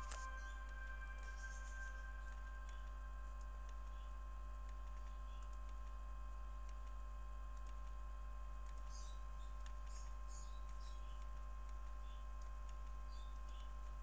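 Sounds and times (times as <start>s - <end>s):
computer mouse clicks: 0.0s - 14.0s
low electrical hum: 0.0s - 14.0s
thin constant tone: 0.0s - 14.0s.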